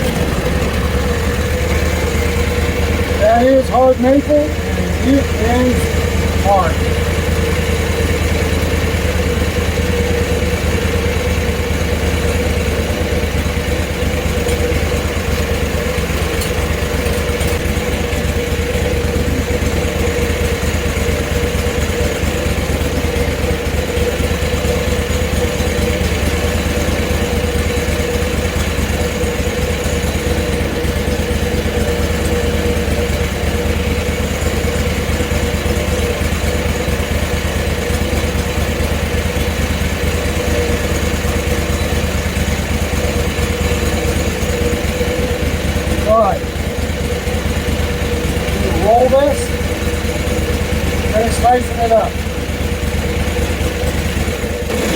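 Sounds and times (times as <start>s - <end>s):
sawmill engine running under load: 0.0s - 54.9s.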